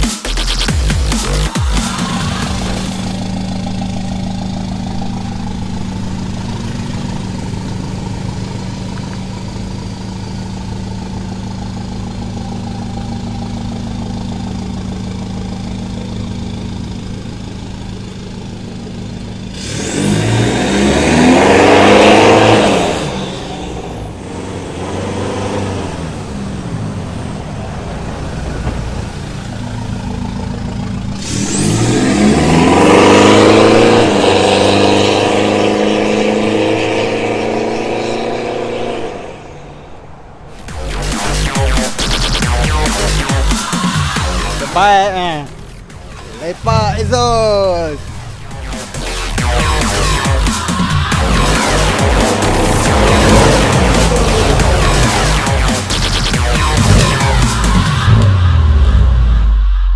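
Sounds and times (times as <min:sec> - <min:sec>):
pickup engine idling and revving: 0:00.0 - 0:59.9.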